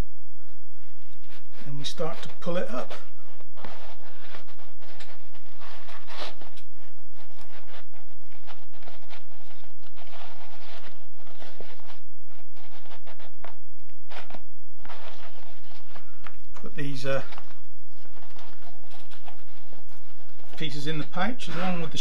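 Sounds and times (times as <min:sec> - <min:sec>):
leather pouch rustling and creaking: 0:01.0 - 0:22.0.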